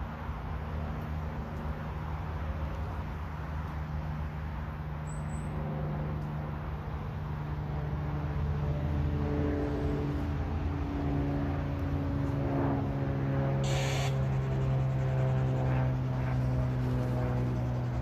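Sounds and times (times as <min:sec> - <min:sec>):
distant road traffic rumble: 0:00.0 - 0:18.0.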